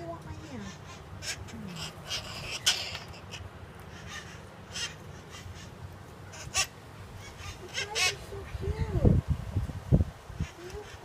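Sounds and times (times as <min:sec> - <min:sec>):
parrots squawking: 0:00.0 - 0:08.9, 0:10.4 - 0:11.0.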